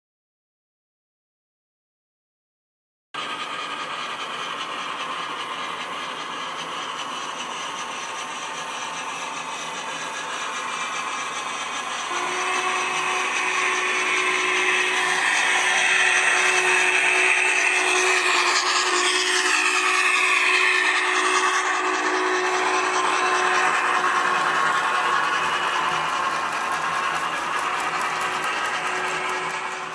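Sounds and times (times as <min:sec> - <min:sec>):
model train running on track: 0:03.2 - 0:29.9.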